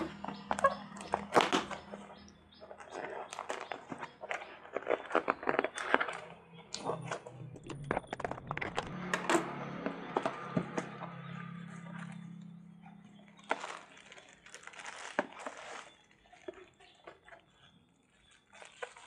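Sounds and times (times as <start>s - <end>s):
packaging crackling and rustling: 0.0s - 6.5s, 7.5s - 19.0s.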